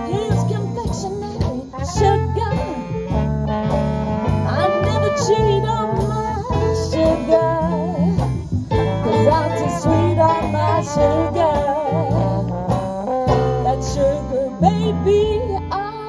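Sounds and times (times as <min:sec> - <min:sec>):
woman singing: 0:00.0 - 0:03.1, 0:04.5 - 0:16.0
clarinet: 0:00.0 - 0:16.0
double bass: 0:00.0 - 0:16.0
trombone: 0:00.0 - 0:16.0
trumpet: 0:00.0 - 0:16.0.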